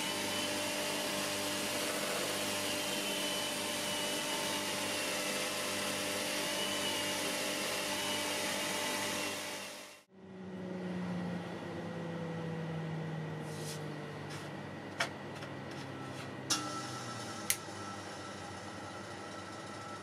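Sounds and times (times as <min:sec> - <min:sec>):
drill motor whine: 0:00.0 - 0:13.4, 0:15.4 - 0:20.0.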